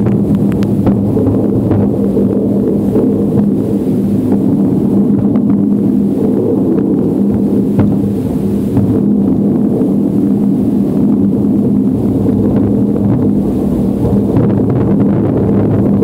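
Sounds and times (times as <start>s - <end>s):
distant fireworks rumble: 0.0s - 16.0s
faint crackling: 0.0s - 16.0s.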